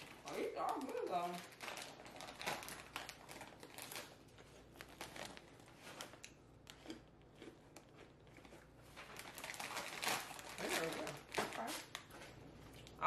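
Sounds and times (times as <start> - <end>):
plastic bags crinkling: 0.0 - 7.0, 8.3 - 12.8.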